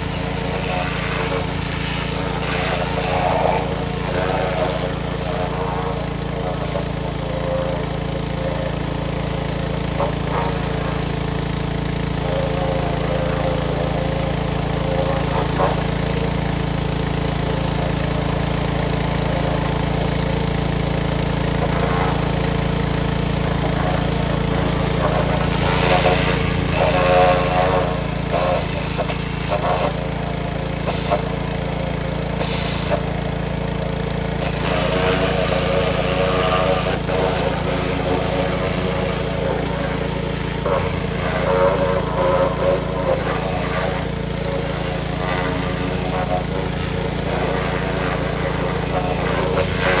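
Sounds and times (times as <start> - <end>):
power washer spraying: 0.0 - 50.0.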